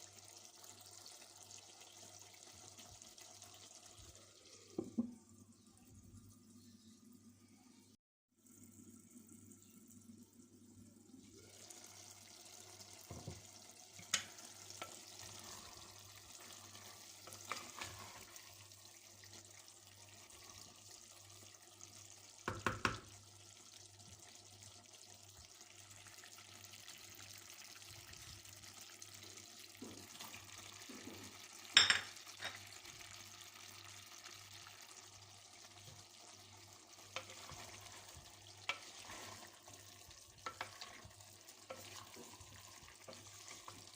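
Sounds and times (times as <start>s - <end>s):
food sizzling in a hot pan: 0.0s - 5.1s, 10.8s - 43.9s.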